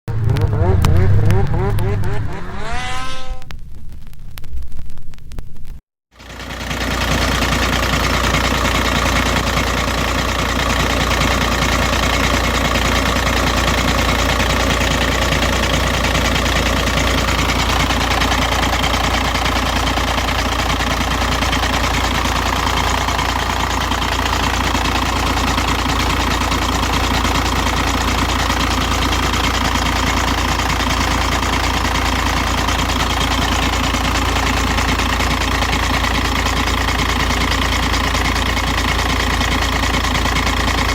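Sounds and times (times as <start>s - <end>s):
strange noise from engine bottom: 0.0s - 40.9s
diesel engine idling: 6.2s - 40.9s.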